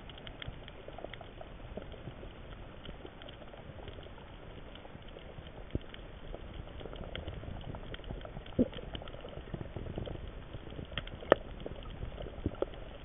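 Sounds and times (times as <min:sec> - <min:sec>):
low water hiss: 0:00.0 - 0:13.0
underwater reef clicks and pops: 0:00.0 - 0:13.0.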